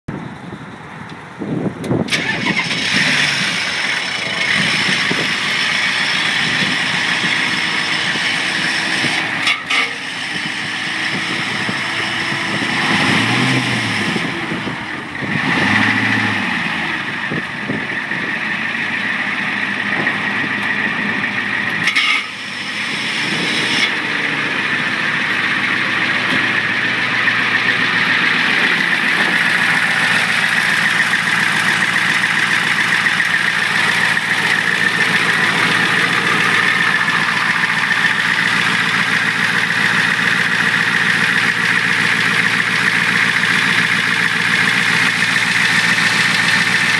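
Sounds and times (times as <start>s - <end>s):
pickup engine starting and idling: 0.1s - 46.9s.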